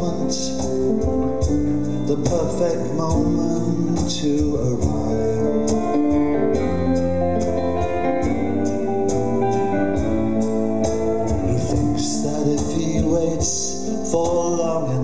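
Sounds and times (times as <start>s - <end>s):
keyboard: 0.0s - 15.0s
violin: 0.0s - 15.0s.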